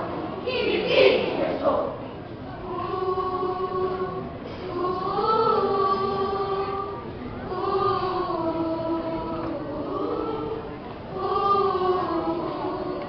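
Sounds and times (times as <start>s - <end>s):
young voices singing together: 0.0s - 13.0s.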